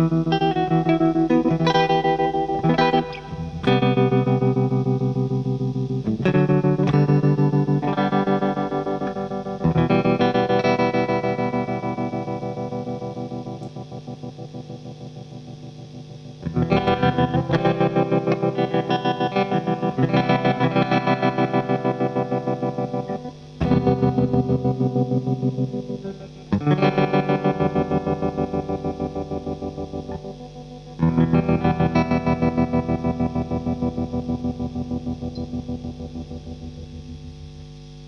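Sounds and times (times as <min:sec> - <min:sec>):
electric guitar chords with tremolo: 0:00.0 - 0:38.0.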